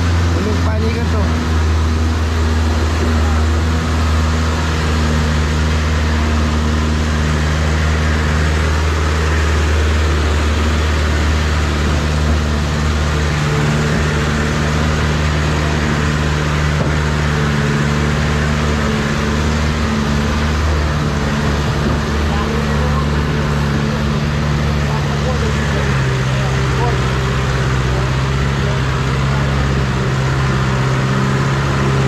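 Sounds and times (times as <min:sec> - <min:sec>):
road and wind noise: 0:00.0 - 0:32.0
vehicle engine running: 0:00.0 - 0:32.0.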